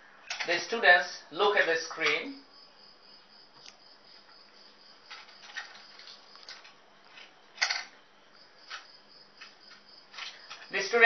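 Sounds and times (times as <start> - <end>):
faint steady hum and hiss: 0.0 - 11.0.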